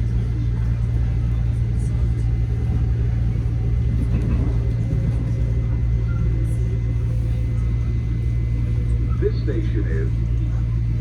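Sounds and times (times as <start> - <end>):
train rumbling from inside: 0.0 - 11.0.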